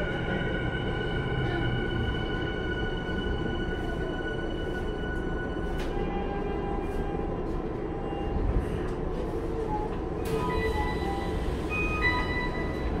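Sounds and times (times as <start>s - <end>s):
stopped train rumble and hum: 0.0s - 13.0s.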